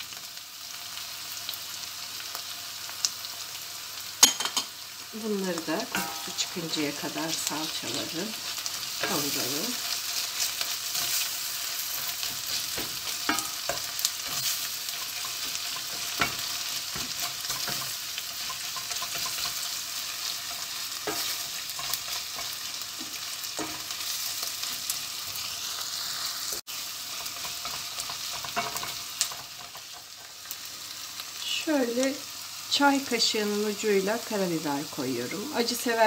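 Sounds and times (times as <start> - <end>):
vegetables sizzling in a pot: 0.0 - 36.0.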